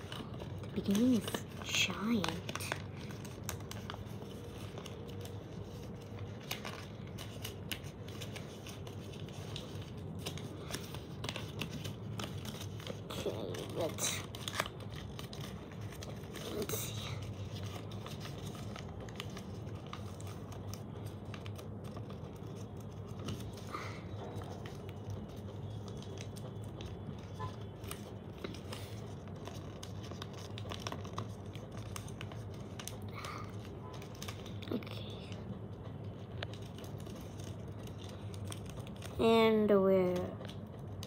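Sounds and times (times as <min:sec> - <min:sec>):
paper rustling and crinkling: 0:00.0 - 0:41.0.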